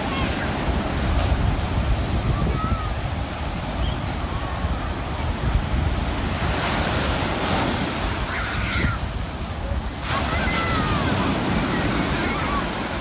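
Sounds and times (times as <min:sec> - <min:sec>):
ocean surf breaking on beach: 0:00.0 - 0:13.0
wind rumbling on microphone: 0:00.0 - 0:13.0.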